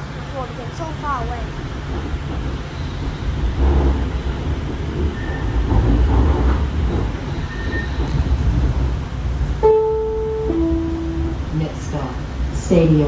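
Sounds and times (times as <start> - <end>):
light rail car rumbling: 0.0 - 13.0.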